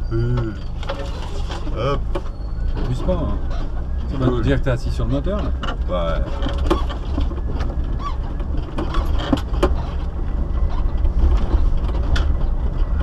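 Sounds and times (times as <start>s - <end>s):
off-road vehicle rumbling: 0.0s - 13.0s
vehicle knocks and clatters: 0.0s - 13.0s.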